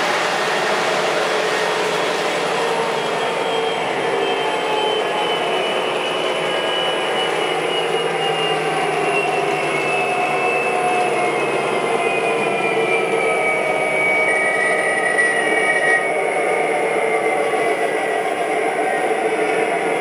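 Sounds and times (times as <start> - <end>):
high whine sliding lower: 0.0 - 20.0
model diesel locomotive engine: 0.0 - 20.0.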